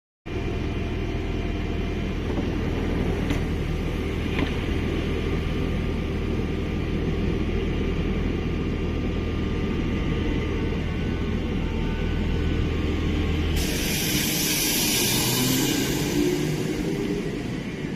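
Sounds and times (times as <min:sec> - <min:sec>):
electric train humming: 0:00.3 - 0:17.9.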